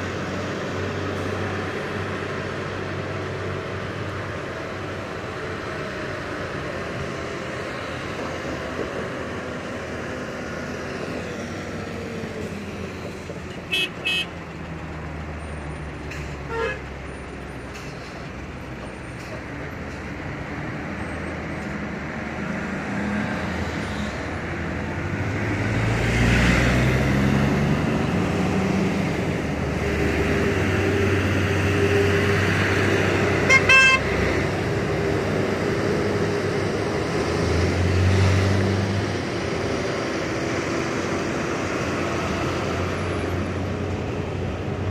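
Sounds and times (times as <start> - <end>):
cars passing: 0.0 - 44.9
lorry diesel engine at low revs: 0.0 - 44.9.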